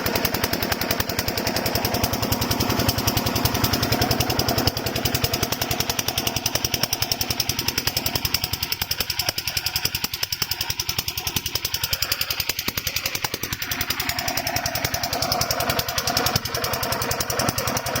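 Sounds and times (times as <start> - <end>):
diesel water pump engine running: 0.0 - 18.0.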